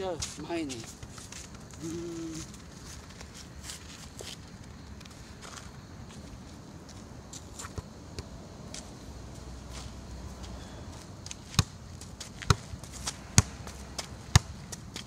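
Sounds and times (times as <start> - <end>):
foot scuffs: 0.1 - 7.9, 8.7 - 15.0.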